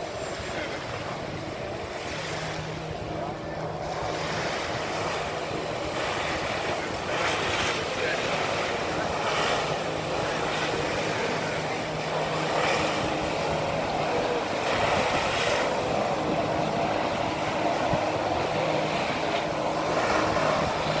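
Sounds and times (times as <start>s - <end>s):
rushing water jet spray: 0.0s - 21.0s
watercraft engine drone: 0.0s - 21.0s.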